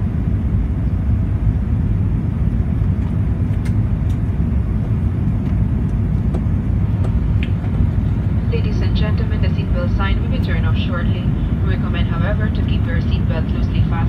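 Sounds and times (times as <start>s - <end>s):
airplane engines rumbling in cabin: 0.0s - 14.0s.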